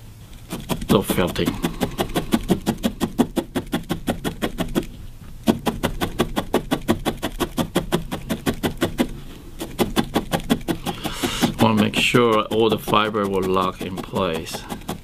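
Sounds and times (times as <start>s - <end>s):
felting needle poking wool: 0.4s - 15.0s.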